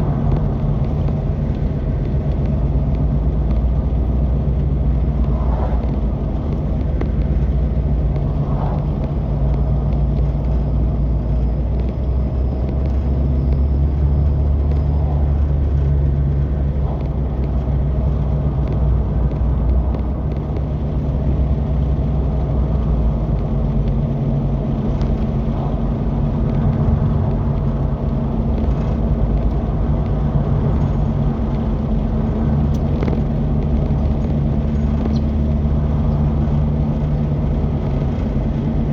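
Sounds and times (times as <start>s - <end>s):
utility vehicle engine rumbling: 0.0s - 38.9s.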